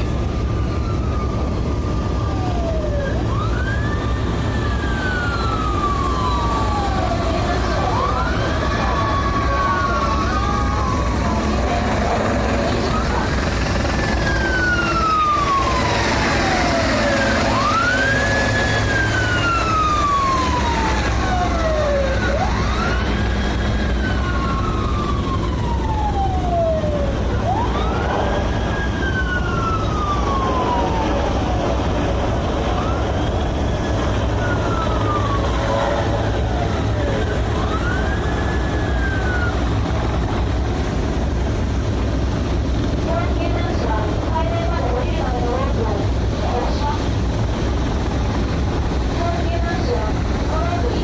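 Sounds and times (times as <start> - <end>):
siren wailing: 0.0 - 51.0
steady low rumble: 0.0 - 51.0.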